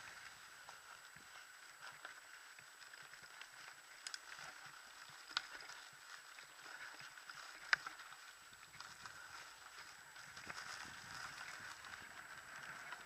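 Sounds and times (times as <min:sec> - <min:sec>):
bike rattling: 0:00.0 - 0:13.0
bike tyres rustling on trail: 0:00.0 - 0:13.0.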